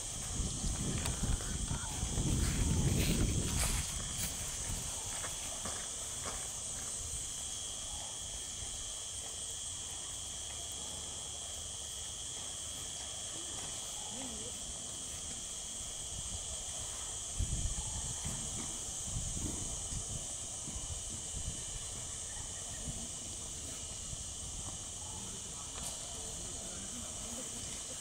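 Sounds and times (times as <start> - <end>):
shrill chorus of insects: 0.0 - 28.0.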